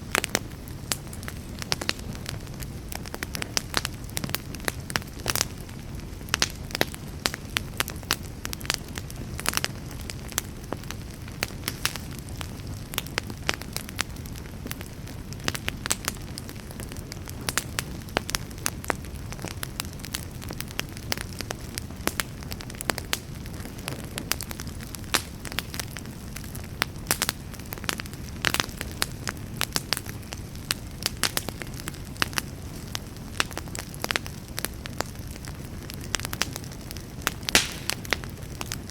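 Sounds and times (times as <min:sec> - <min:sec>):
fire crackling and popping: 0:00.0 - 0:38.9
wood fire rushing: 0:07.4 - 0:38.9.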